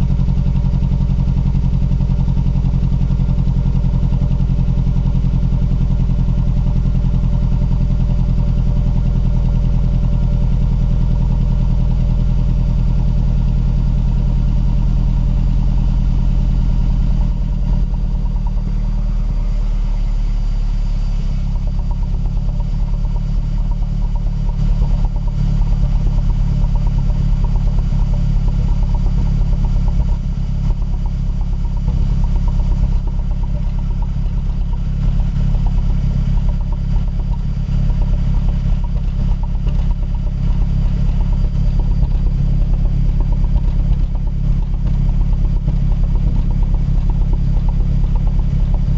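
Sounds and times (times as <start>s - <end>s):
car engine idling rough: 0.0s - 48.9s.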